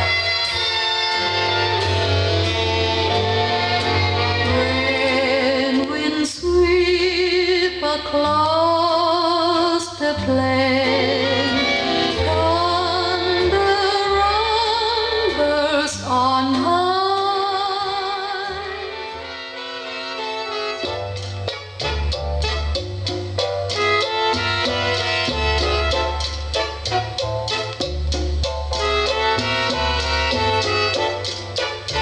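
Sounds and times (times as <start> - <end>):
vintage song from vinyl record: 0.0 - 32.0.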